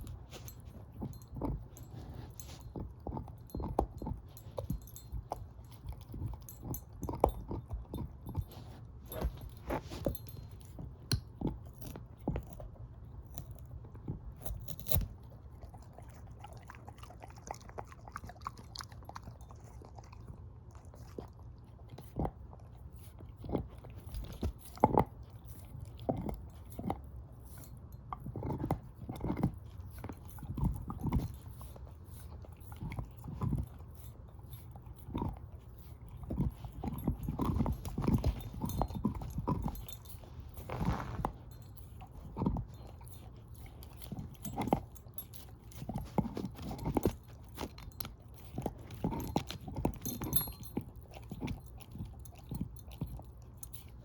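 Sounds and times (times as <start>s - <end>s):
dog chewing on a bone: 0.0s - 54.0s.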